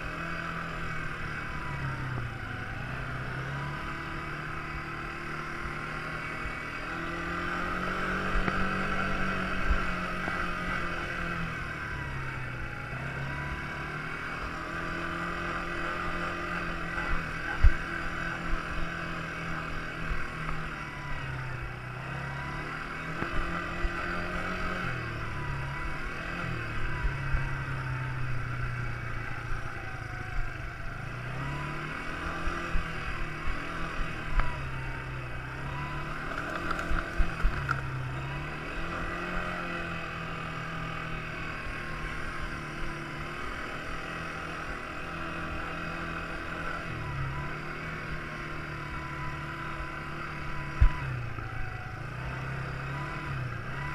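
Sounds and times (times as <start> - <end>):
quad bike engine: 0.0 - 53.9.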